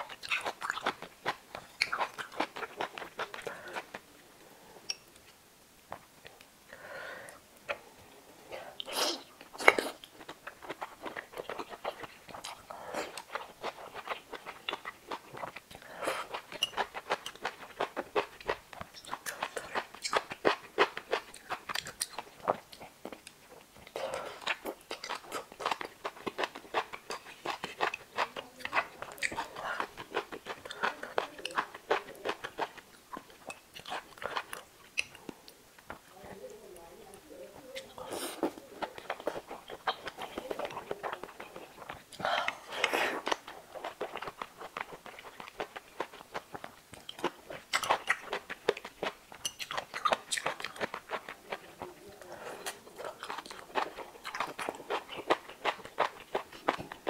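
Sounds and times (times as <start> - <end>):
wet chewing and mouth smacking: 0.0 - 4.1, 7.3 - 7.9, 8.8 - 36.1, 37.1 - 57.0.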